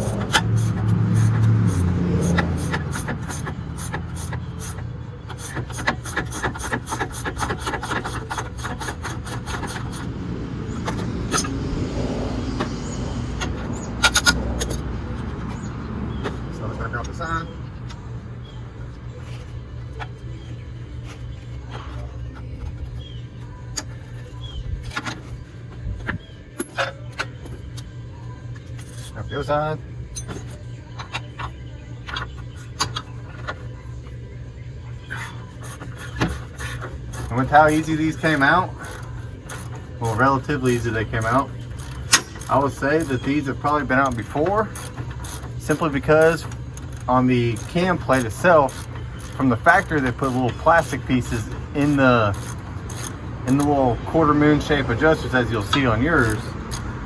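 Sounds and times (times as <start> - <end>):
steady low rumble: 0.0 - 5.4, 8.9 - 57.0
steady low hum: 0.0 - 57.0.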